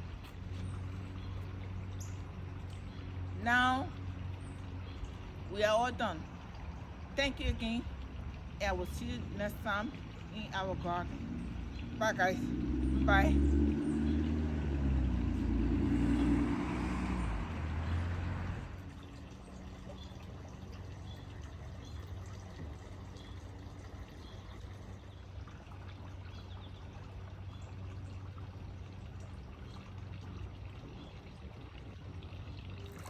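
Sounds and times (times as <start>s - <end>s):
low engine-like hum: 0.0s - 33.0s
water pouring and trickling: 0.0s - 33.0s.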